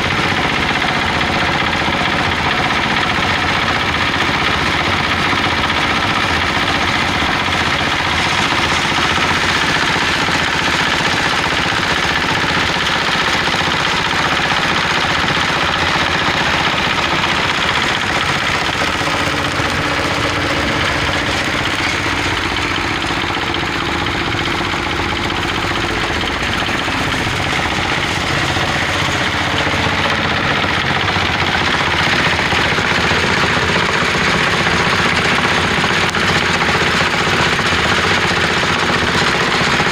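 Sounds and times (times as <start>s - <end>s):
diesel engine running: 0.0s - 39.9s
drying machine running: 0.0s - 39.9s.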